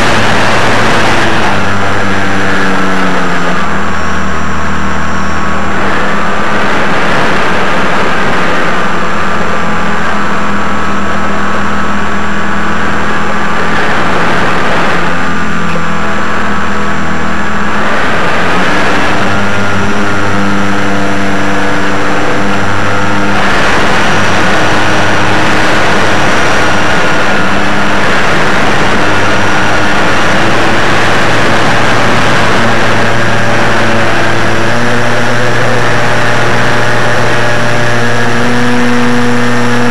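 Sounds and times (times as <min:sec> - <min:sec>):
model aircraft motor whine: 0:00.0 - 0:39.9.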